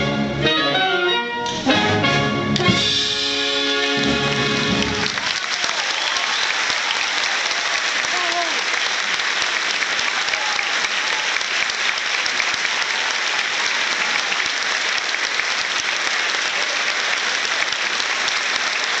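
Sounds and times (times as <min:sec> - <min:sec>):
audience applauding: 0:03.4 - 0:19.0.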